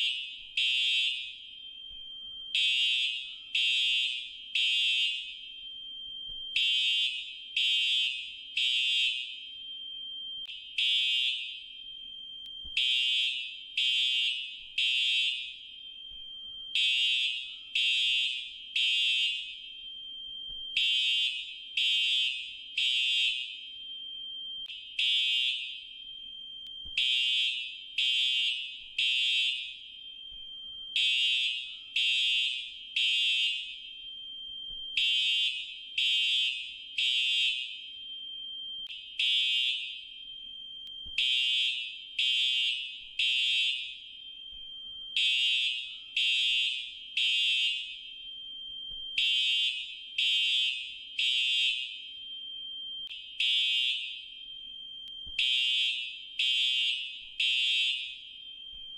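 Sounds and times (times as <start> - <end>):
fire alarm high-pitched beeps: 0.0 - 58.9.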